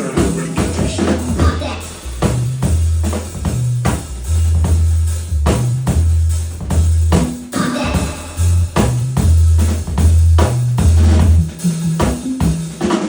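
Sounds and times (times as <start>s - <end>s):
deep held bass line: 0.0s - 12.6s
drum kit beat: 0.0s - 13.0s.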